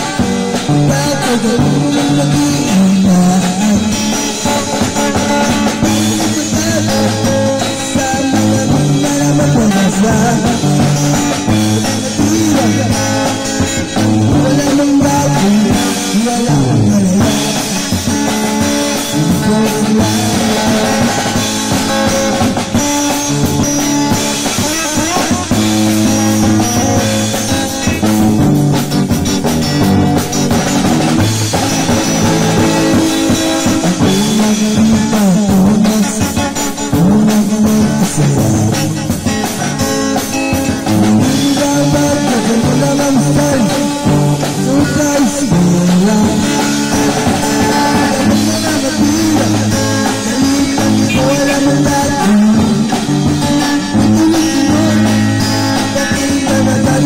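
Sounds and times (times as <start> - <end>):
drum kit playing: 0.0 - 57.0
electric guitar through amplifier: 0.0 - 57.0.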